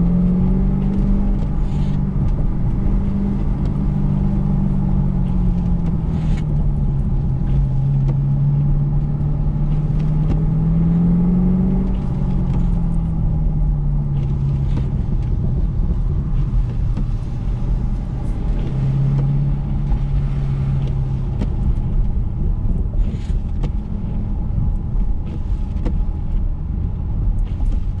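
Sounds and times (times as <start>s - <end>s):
car engine from inside cabin: 0.0s - 28.0s
tyre noise on wet pavement: 0.0s - 28.0s.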